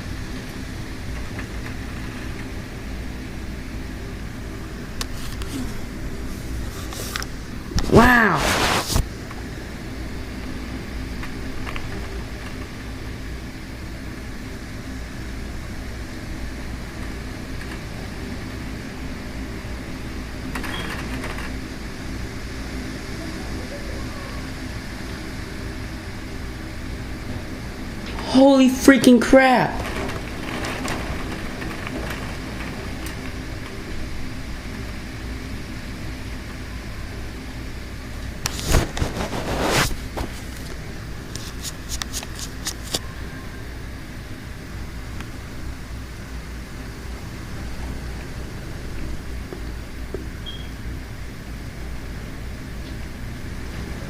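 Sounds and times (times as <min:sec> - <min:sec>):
rain: 0:00.0 - 0:54.0.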